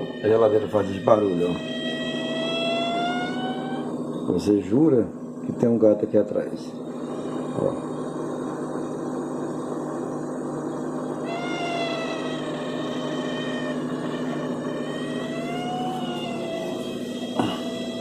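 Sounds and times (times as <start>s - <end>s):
high wavering whine: 0.0s - 18.0s
refrigerator humming: 0.0s - 18.0s.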